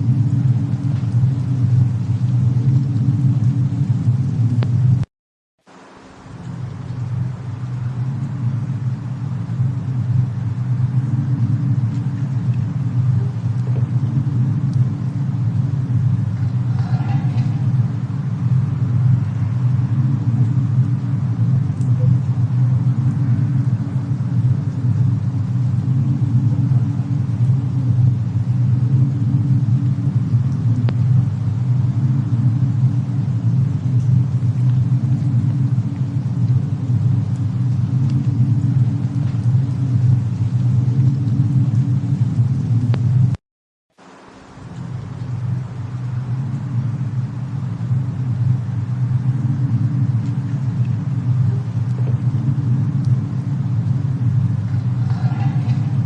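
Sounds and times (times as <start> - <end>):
storm wind rumbling: 0.0 - 5.1, 5.8 - 43.4, 44.4 - 56.0
faint fire crackles: 0.0 - 56.0.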